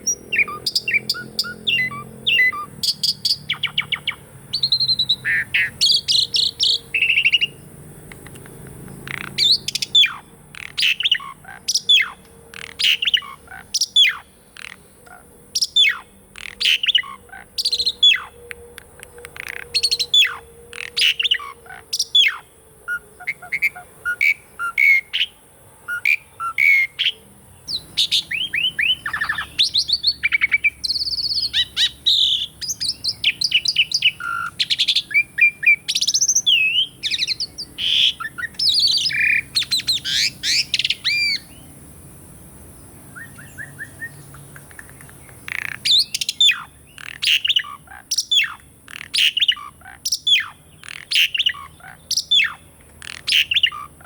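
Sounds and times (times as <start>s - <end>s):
starling singing: 0.0s - 41.7s, 43.1s - 54.0s.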